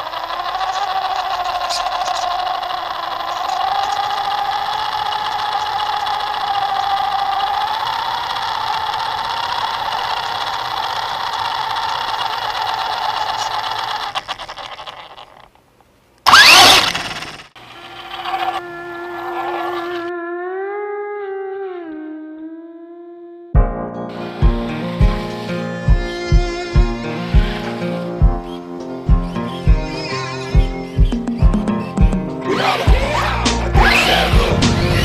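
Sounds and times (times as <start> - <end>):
small electric motors humming: 0.0 - 15.5, 16.3 - 20.3, 24.2 - 35.0.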